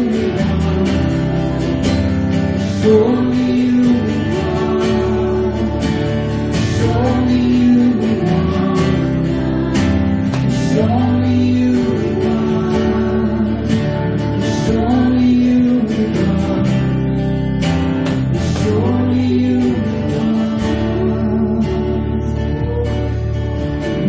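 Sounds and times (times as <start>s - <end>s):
drums: 0.0s - 24.0s
strummed guitar: 0.0s - 24.0s.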